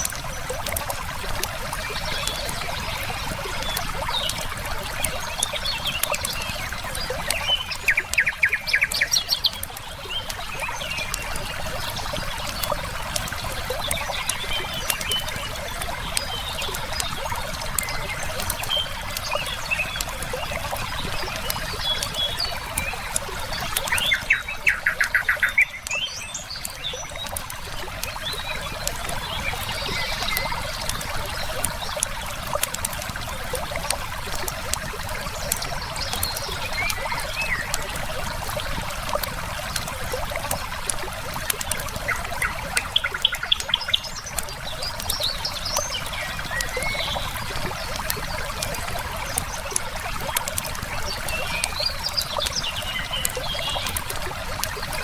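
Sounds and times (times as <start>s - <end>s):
river water flowing: 0.0s - 55.0s
songbirds calling: 0.0s - 55.0s
wood fire crackling: 0.0s - 55.0s.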